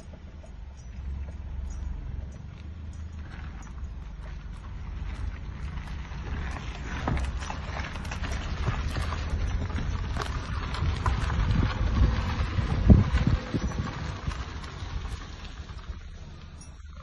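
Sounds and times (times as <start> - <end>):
wind buffeting microphone: 0.0 - 16.2
car tyres and engine rumble: 0.0 - 17.0.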